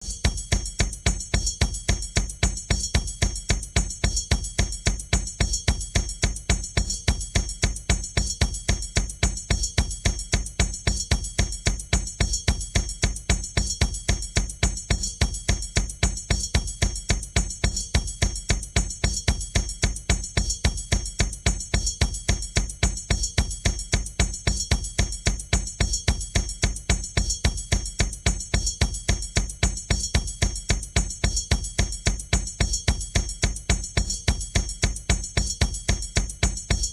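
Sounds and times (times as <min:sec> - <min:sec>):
bass drum beat: 0:00.0 - 0:36.9.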